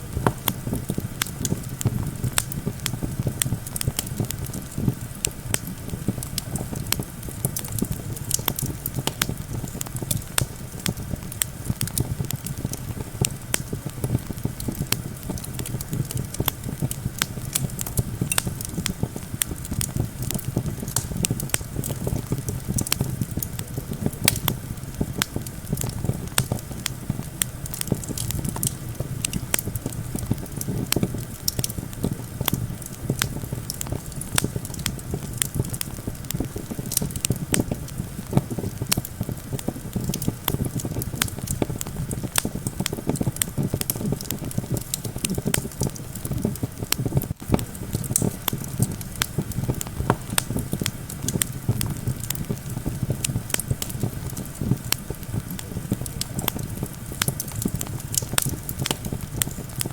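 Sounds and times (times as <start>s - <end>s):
campfire crackling and popping: 0.0s - 59.9s
low rumble of wind: 0.0s - 59.9s.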